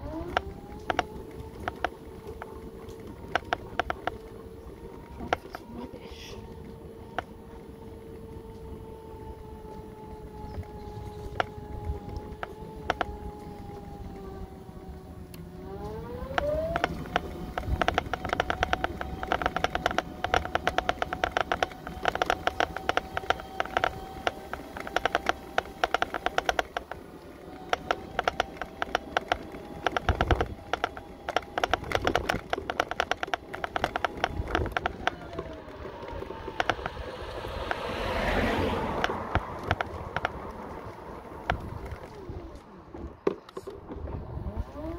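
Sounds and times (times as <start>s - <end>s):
rapid clicks and knocks: 0.0s - 5.8s, 10.4s - 14.3s, 16.1s - 37.9s, 38.8s - 44.1s
mobility scooter motor whining: 0.0s - 44.9s.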